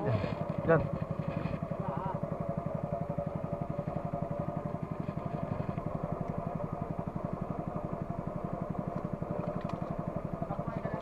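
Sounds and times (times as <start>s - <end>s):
small boat engine puttering: 0.0s - 11.0s.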